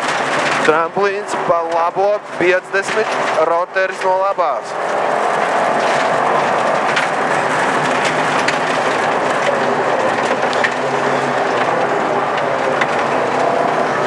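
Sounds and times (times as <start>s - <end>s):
car engine running: 0.0s - 14.0s
tyres on loose gravel: 0.0s - 14.0s.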